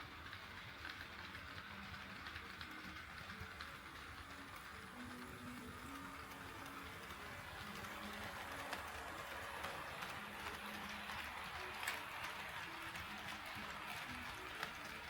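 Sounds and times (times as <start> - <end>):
model train rolling on track: 0.0 - 15.0
small clicks: 0.2 - 15.0.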